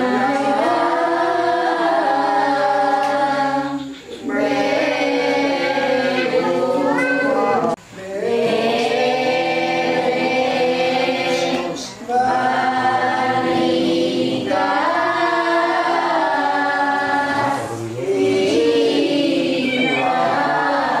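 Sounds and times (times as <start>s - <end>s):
congregation singing a hymn: 0.0s - 21.0s.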